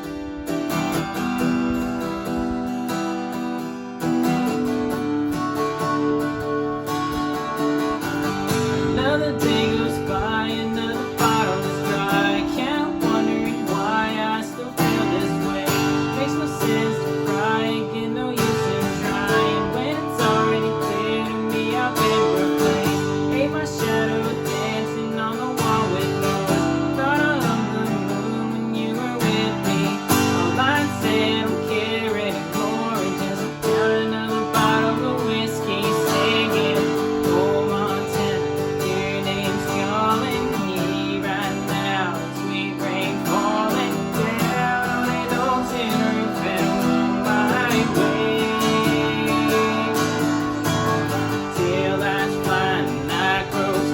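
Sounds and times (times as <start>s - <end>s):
gliding guitar melody: 0.0s - 53.9s
strummed acoustic guitar: 0.0s - 53.9s.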